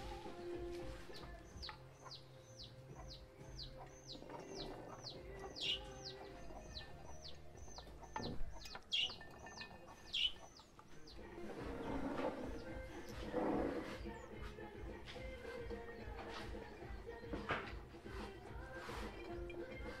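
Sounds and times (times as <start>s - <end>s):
bird calling: 0.0s - 20.0s.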